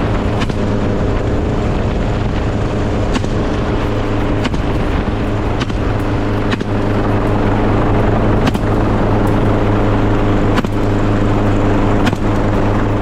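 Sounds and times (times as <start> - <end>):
helicopter drone overhead: 0.0 - 13.0.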